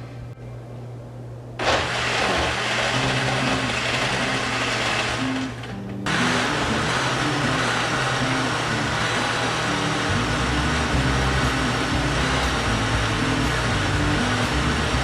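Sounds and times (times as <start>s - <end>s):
blender motor running: 1.6s - 15.0s.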